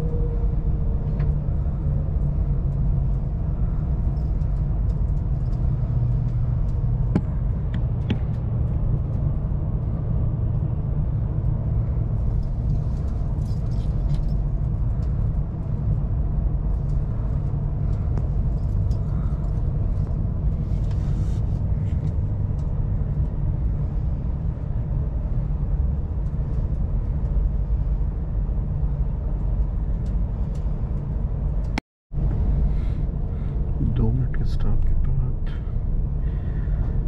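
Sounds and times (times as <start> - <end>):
train carriage interior rumble: 0.0 - 37.0.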